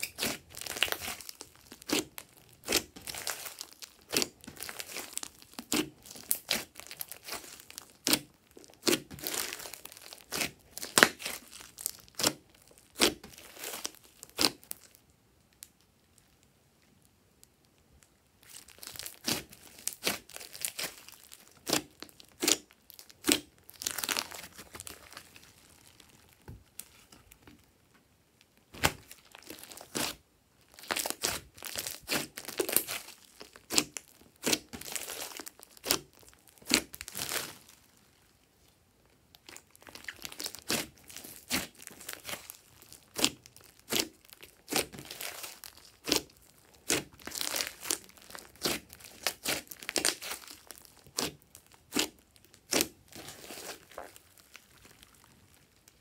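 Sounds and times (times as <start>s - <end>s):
slime crackling and popping: 0.0s - 16.4s, 17.4s - 27.6s, 28.4s - 38.3s, 39.0s - 56.0s.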